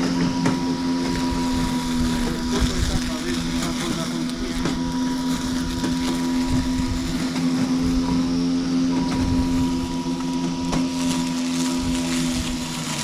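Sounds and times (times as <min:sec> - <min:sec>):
lawnmower motor humming: 0:00.0 - 0:13.0.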